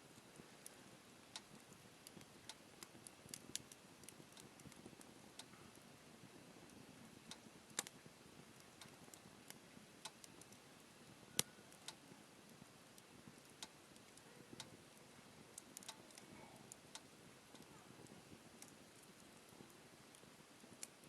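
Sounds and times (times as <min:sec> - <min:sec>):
campfire crackling: 0:00.0 - 0:21.0
low hiss: 0:00.0 - 0:21.0.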